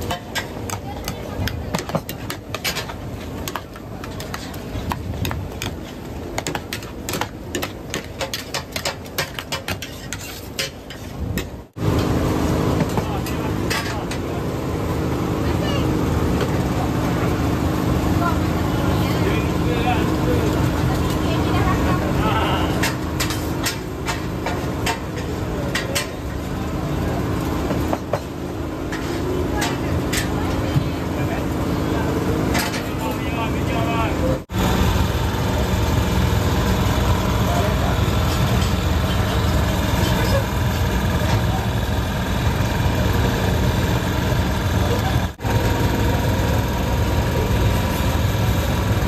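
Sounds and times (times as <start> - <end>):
low hubbub of crowd: 0.0 - 11.7, 12.4 - 34.5, 35.1 - 49.0.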